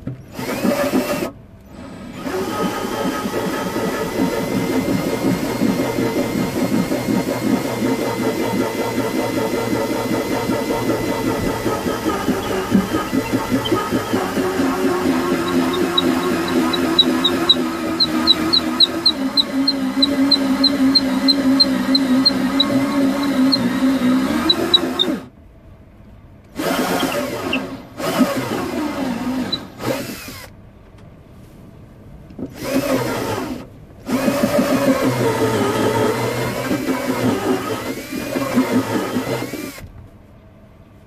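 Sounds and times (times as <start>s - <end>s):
drill boring into wood: 0.3s - 25.3s, 26.6s - 30.5s, 32.5s - 39.9s.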